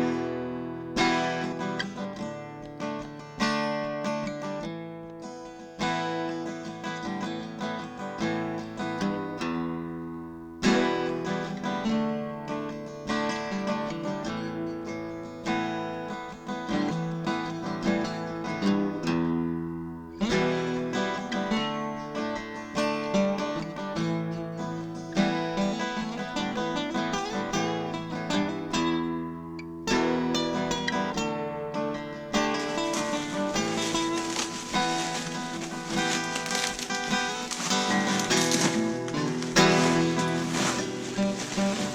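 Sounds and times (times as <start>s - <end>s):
acoustic guitar picked and strummed: 0.0s - 41.9s.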